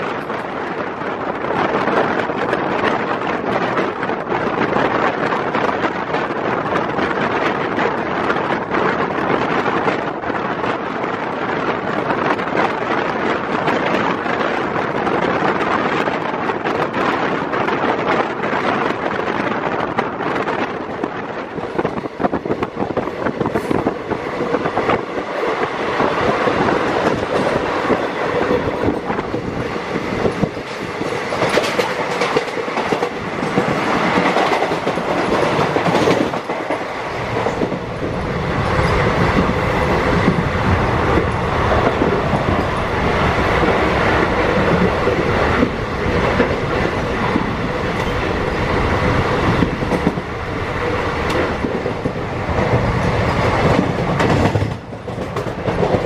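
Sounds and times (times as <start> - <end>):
train running on track: 0.0 - 56.0.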